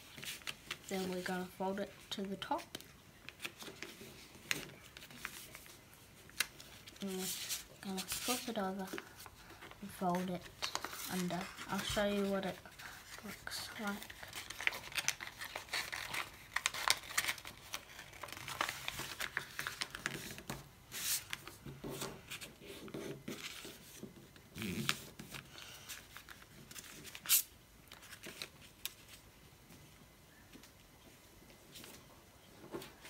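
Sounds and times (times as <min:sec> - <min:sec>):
paper rustling and crinkling: 0:00.0 - 0:29.2.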